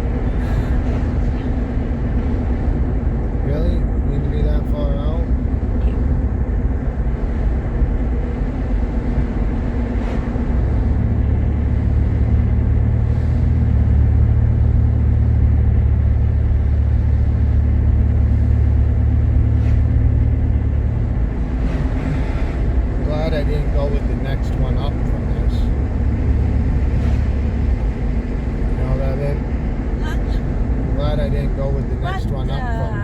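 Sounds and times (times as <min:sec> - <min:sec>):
car cabin engine and road rumble: 0:00.0 - 0:33.0.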